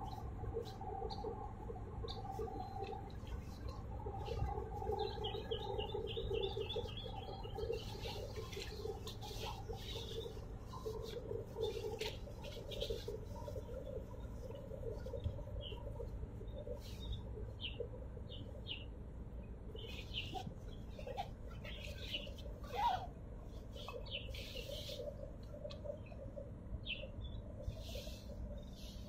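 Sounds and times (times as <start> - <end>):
low harbour rumble: 0.0 - 29.0
small birds chirping: 0.0 - 29.0.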